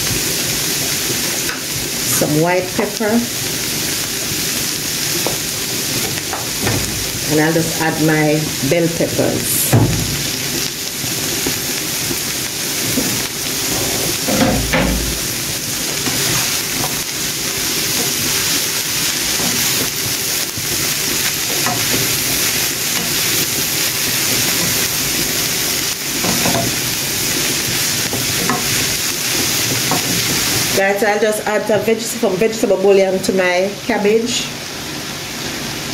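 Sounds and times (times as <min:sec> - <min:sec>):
vegetables sizzling in frying pan: 0:00.0 - 0:35.9.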